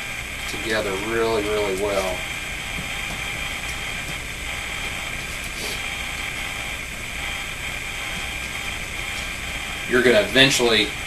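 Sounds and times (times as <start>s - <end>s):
background hiss: 0.0s - 11.0s
high hum: 0.0s - 11.0s.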